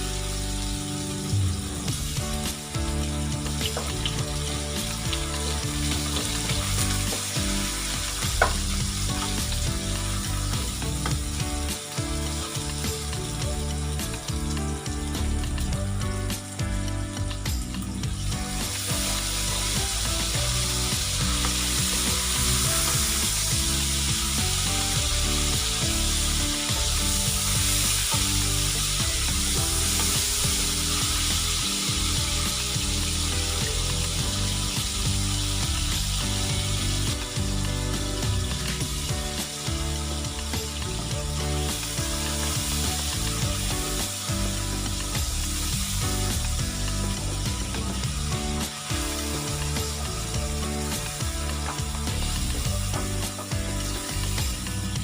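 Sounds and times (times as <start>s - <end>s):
background music: 0.0s - 55.0s
food sizzling in a pan: 0.0s - 55.0s.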